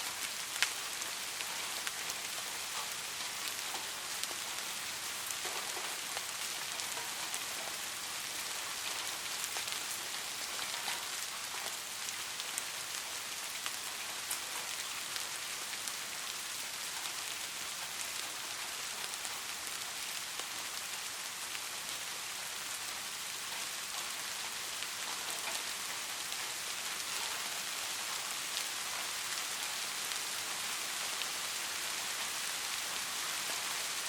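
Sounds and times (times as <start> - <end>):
soft rain falling: 0.0 - 34.0.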